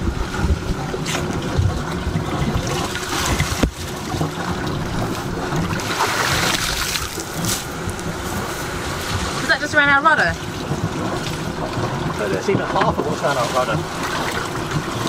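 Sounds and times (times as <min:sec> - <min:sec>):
water sloshing and trickling: 0:00.0 - 0:15.0.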